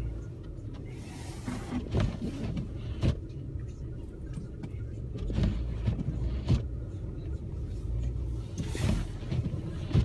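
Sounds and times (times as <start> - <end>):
car cabin low rumble: 0.0 - 10.0.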